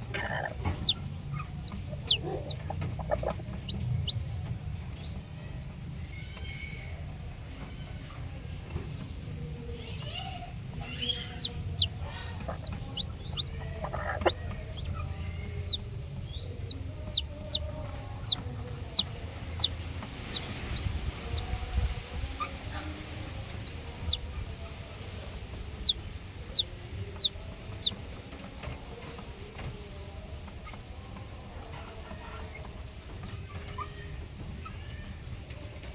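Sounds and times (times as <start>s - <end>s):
chick peeping: 0.0s - 35.9s.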